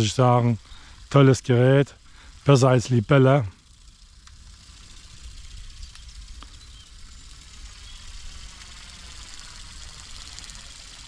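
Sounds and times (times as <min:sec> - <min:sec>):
toy bird motor and wings whirring: 0:00.0 - 0:11.0.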